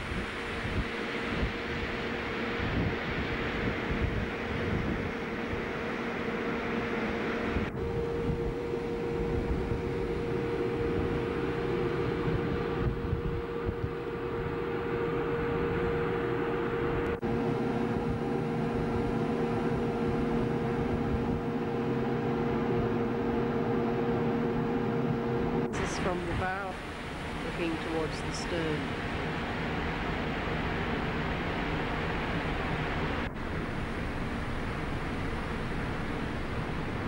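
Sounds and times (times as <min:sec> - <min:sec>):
machinery hum: 0:00.0 - 0:37.0
ship rumbling: 0:00.0 - 0:37.0
wind on microphone: 0:00.0 - 0:37.0.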